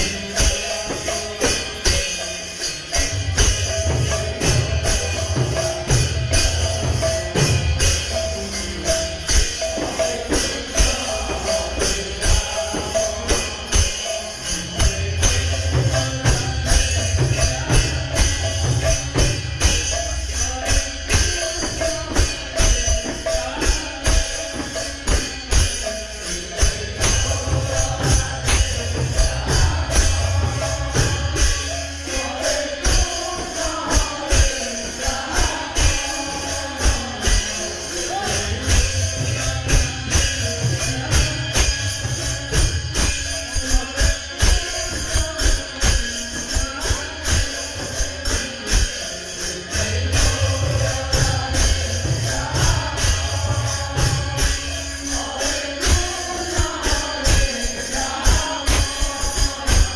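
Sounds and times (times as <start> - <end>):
jingling metal percussion: 0.0 - 59.9.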